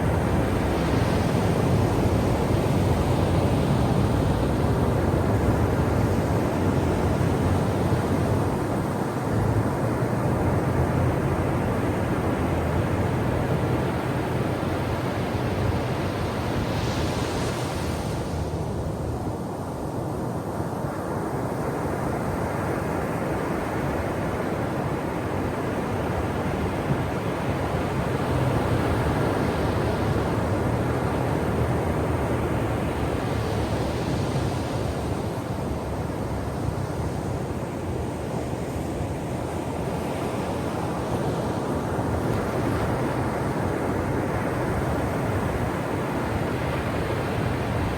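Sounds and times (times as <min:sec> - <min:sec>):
ocean surf washing on shore: 0:00.0 - 0:47.9.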